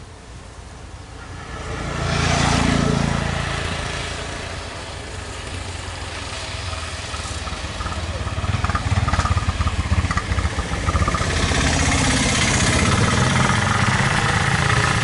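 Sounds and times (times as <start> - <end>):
auto-rickshaw engine passing: 0.0 - 15.0.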